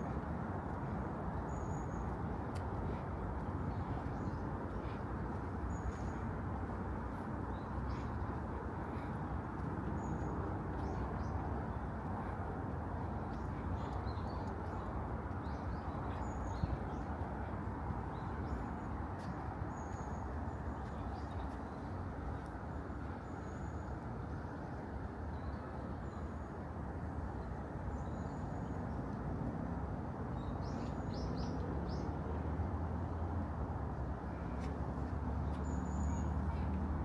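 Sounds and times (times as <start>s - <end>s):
distant city traffic hum: 0.0s - 37.0s.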